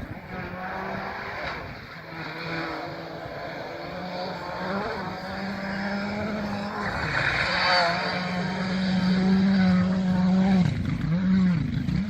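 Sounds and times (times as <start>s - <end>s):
distant rally car engine shifting gears: 0.0s - 12.0s.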